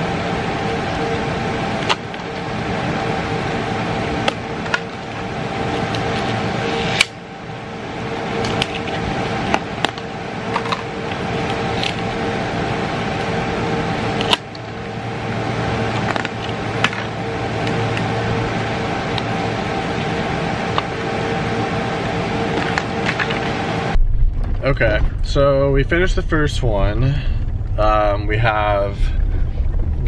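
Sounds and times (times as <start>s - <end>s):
two-note hum: 0.0s - 24.2s
cooling fans whirring: 0.0s - 30.0s.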